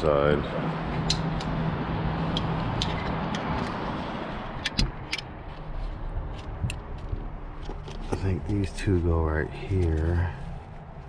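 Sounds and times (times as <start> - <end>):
steady rumble: 0.0 - 11.0.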